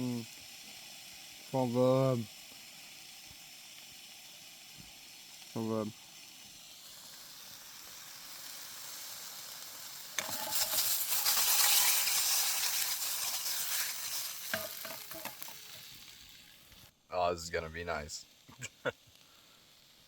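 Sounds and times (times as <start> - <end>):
meat sizzling in a frying pan: 0.0 - 16.9, 18.2 - 20.0.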